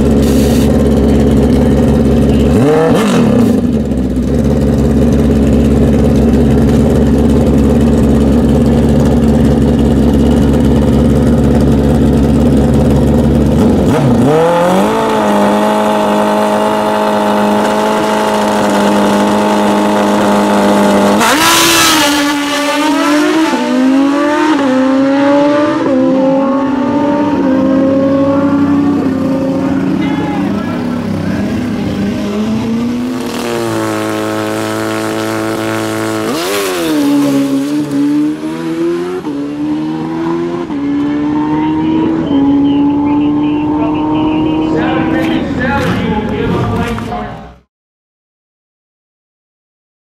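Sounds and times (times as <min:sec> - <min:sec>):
motorcycle engines revving: 0:00.0 - 0:47.7.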